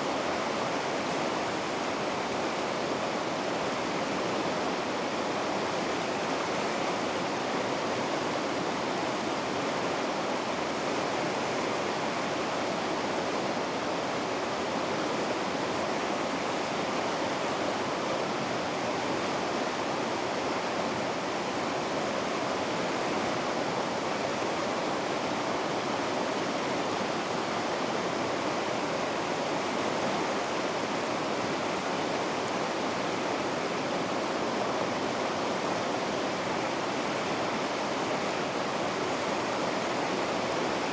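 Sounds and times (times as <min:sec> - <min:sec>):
river rapids rushing: 0:00.0 - 0:40.9.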